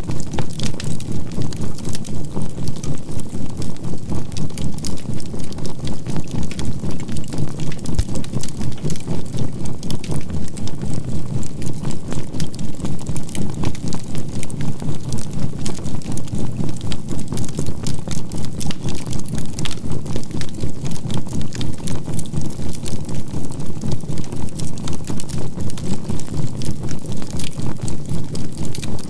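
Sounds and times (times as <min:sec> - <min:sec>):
fire crackling and popping: 0:00.1 - 0:29.0.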